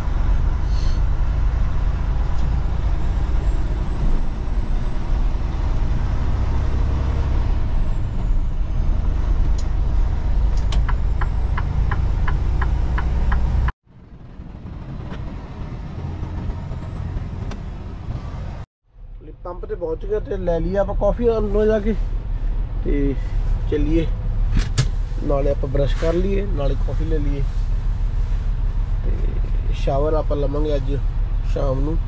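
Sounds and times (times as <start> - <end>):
truck diesel engine rumble: 0.0 - 32.0.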